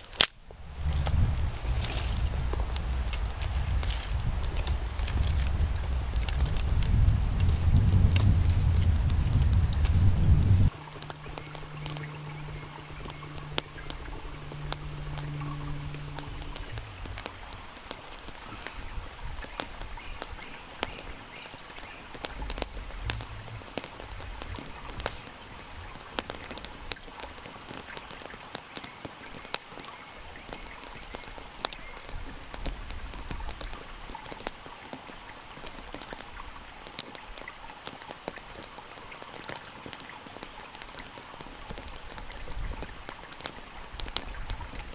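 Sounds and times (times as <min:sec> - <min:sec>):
campfire crackling and popping: 0:00.0 - 0:44.9
faint steady hiss: 0:00.0 - 0:44.9.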